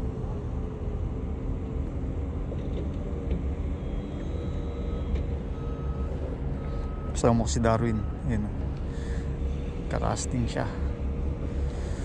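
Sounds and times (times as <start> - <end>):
faint engine hum: 0.0 - 12.0
road traffic rumble: 0.0 - 12.0.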